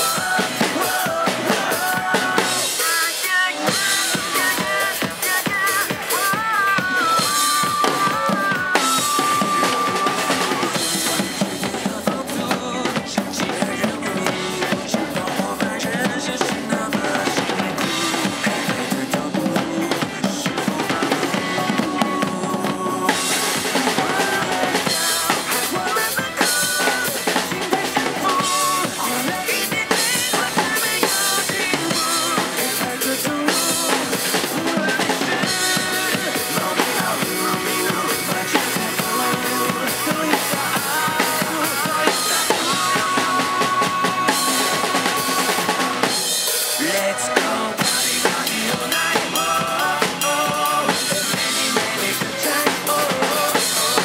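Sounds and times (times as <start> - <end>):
drum kit playing: 0.0 - 54.0
rock backing track from speaker: 0.0 - 54.0.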